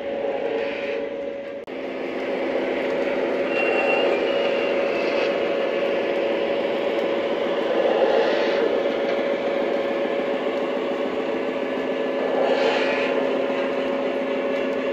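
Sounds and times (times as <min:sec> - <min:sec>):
electronic locomotive engine sound: 0:00.0 - 0:14.9
wheels rumbling on track: 0:00.0 - 0:14.9.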